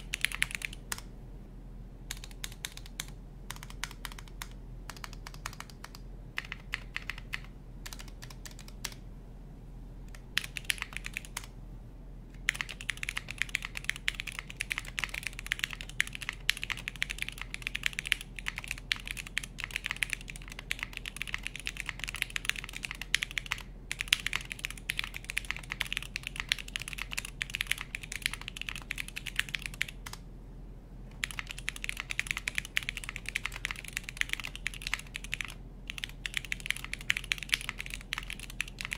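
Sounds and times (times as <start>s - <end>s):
mechanical keyboard typing: 0.0s - 1.1s, 2.1s - 9.0s, 10.1s - 11.5s, 12.4s - 30.2s, 31.1s - 38.9s.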